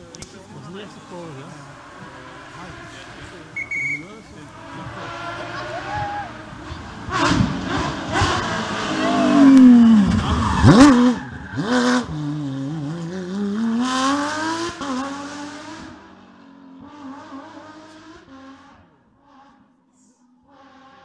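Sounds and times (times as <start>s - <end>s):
rally car engine revving: 0.0s - 19.7s, 20.4s - 21.0s.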